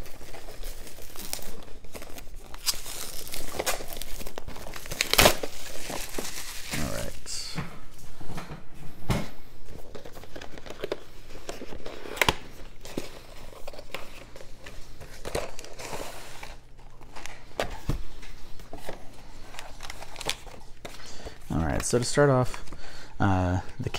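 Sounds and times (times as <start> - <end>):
cardboard and paper rustling: 0.0 - 7.6, 9.6 - 22.8.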